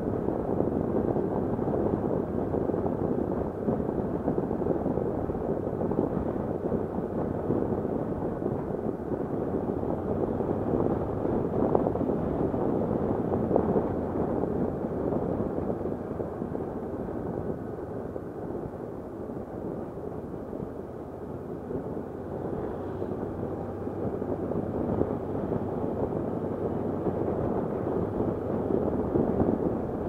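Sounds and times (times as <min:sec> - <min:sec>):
motorcycle engine and road rumble: 0:00.0 - 0:30.0
wind rushing over microphone: 0:00.0 - 0:30.0.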